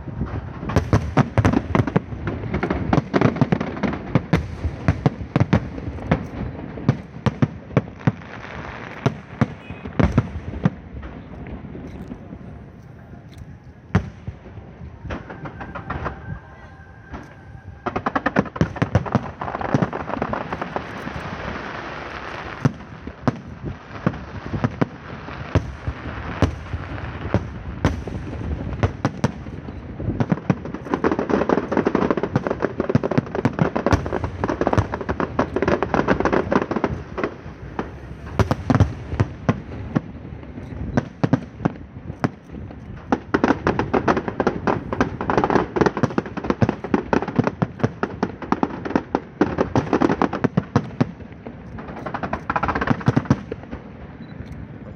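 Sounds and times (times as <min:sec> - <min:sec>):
firecrackers crackling: 0:00.0 - 0:54.9
fireworks banging: 0:00.0 - 0:54.9.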